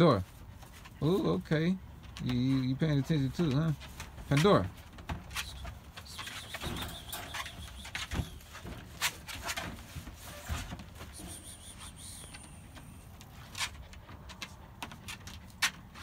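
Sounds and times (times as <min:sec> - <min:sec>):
puppies moving in wire crates: 0:00.0 - 0:16.0.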